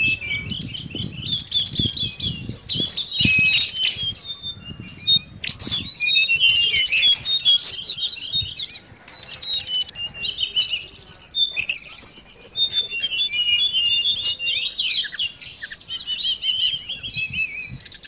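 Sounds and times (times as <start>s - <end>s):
bird twittering song: 0.0s - 18.0s.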